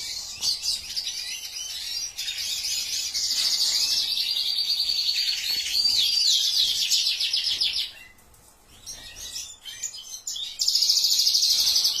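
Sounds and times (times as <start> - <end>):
finches twittering trills: 0.0 - 12.0.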